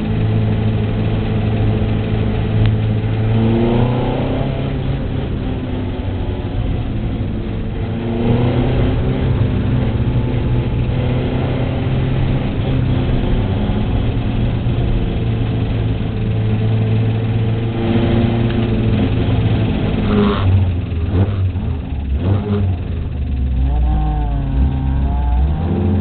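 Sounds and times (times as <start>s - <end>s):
race car engine from inside: 0.0s - 26.0s.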